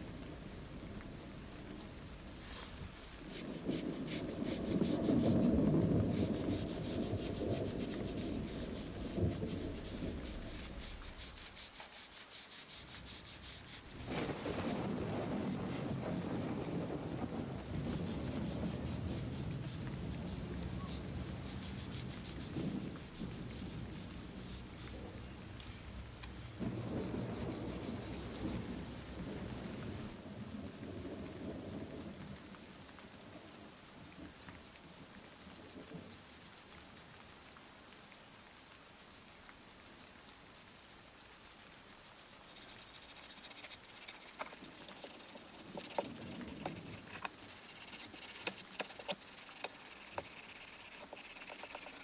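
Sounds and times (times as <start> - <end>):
sandpaper rubbing: 2.4 - 16.9, 17.6 - 25.4, 26.6 - 28.6, 34.4 - 52.0.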